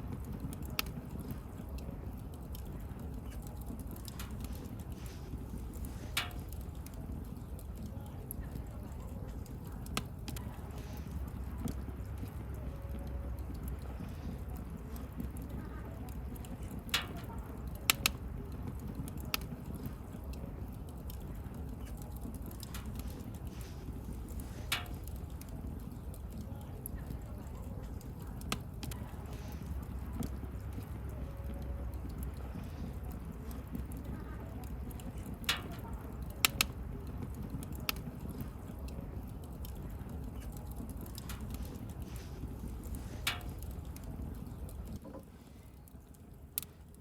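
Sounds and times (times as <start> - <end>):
bonfire crackling and popping: 0.0 - 47.0.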